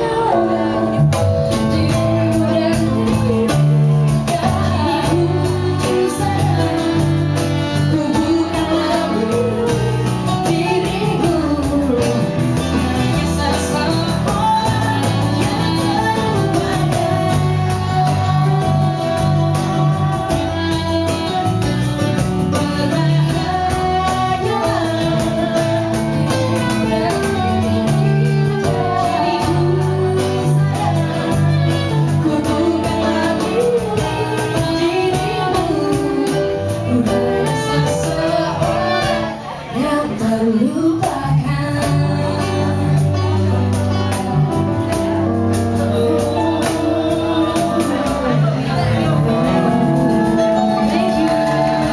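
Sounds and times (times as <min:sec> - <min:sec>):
bass line: 0:00.0 - 0:51.9
electric guitar: 0:00.0 - 0:51.9
women singing: 0:00.0 - 0:51.9.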